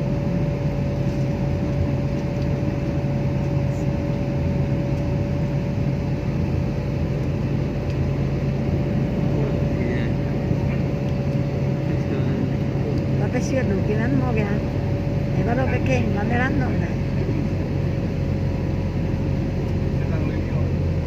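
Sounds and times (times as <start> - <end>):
steady mechanical drone: 0.0 - 21.0.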